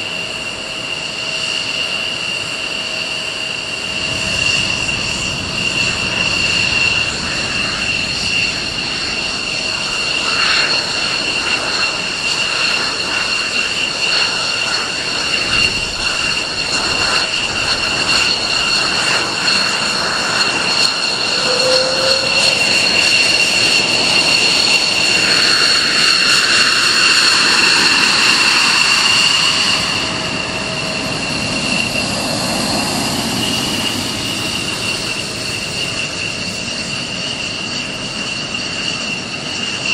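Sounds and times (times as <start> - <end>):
jet engine whine: 0.0 - 39.9.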